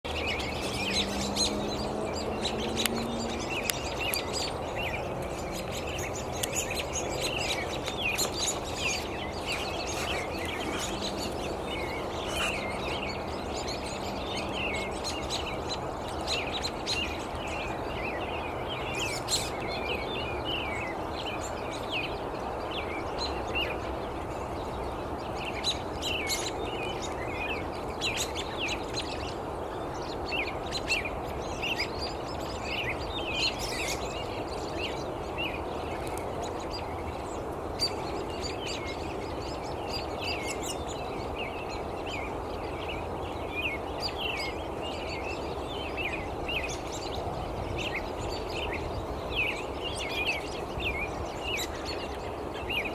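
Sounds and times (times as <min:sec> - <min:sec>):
outdoor background rush: 0:00.0 - 0:52.9
songbirds chirping: 0:00.0 - 0:52.9.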